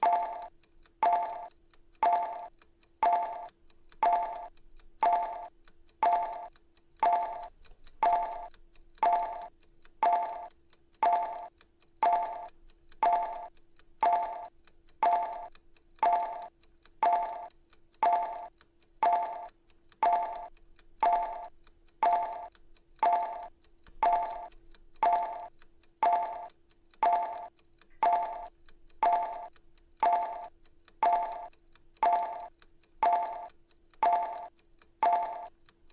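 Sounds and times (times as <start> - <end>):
timer ticking pings: 0.0 - 35.9.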